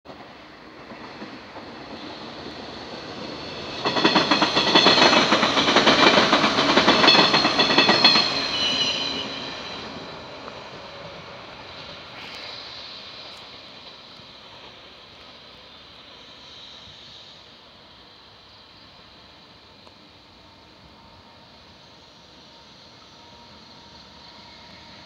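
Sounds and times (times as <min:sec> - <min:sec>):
electric train passing: 0:00.1 - 0:25.0.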